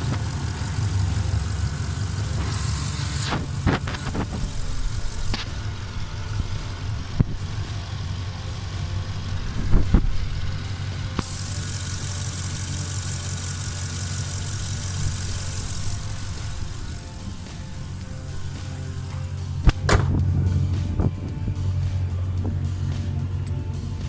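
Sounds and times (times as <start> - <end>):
high hiss: 0.0 - 19.9
car engine idling: 0.0 - 24.0.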